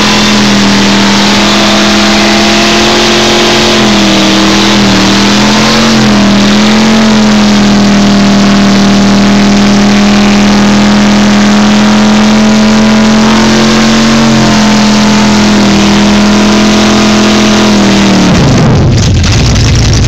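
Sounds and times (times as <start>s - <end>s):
car engine revving high: 0.0s - 20.0s.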